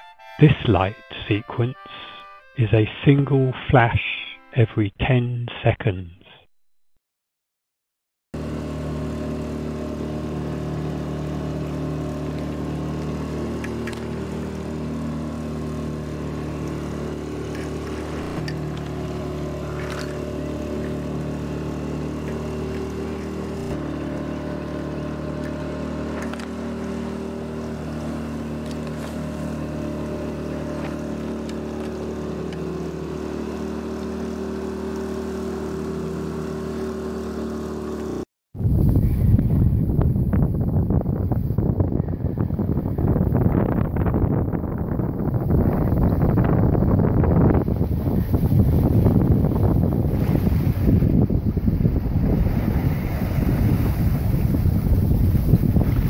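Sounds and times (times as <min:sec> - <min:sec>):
outboard motor droning: 0:00.0 - 0:04.4, 0:08.4 - 0:56.0.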